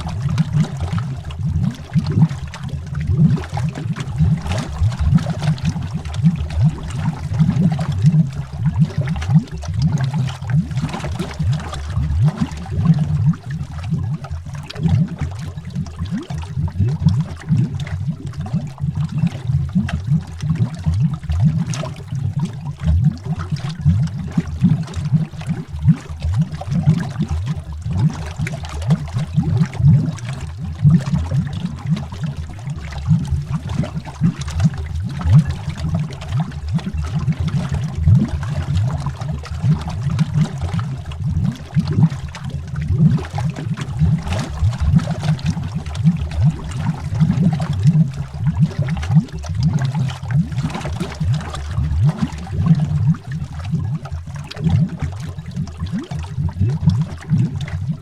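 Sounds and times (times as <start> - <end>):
underwater bubbles gurgling: 0.0 - 58.0.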